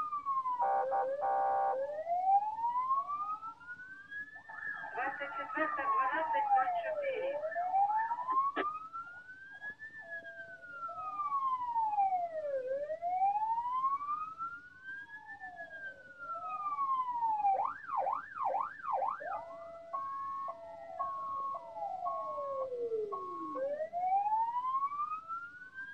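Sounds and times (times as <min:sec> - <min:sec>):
ambulance siren: 0:00.0 - 0:25.9.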